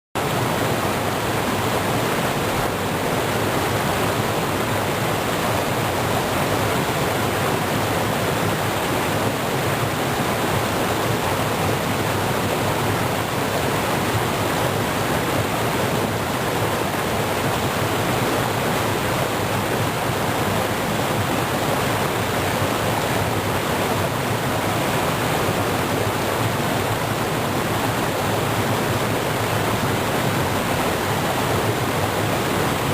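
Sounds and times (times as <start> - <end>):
river water rushing: 0.2 - 32.9.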